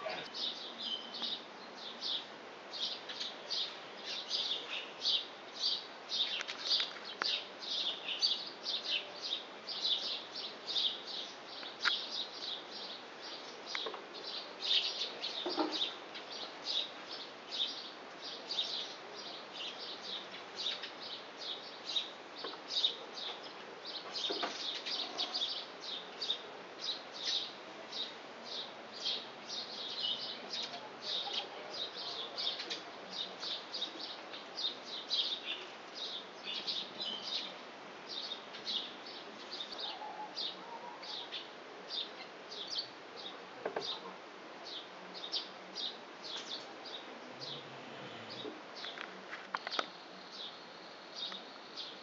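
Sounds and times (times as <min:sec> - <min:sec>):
small songbirds chirping: 0:00.0 - 0:52.0.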